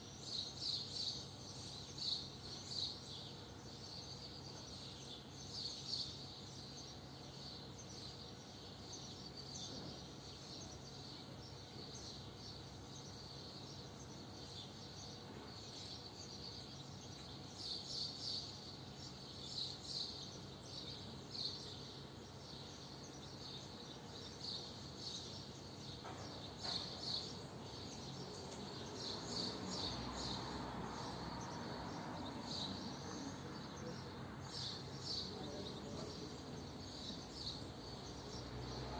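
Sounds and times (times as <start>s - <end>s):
swallows twittering: 0.0s - 38.9s.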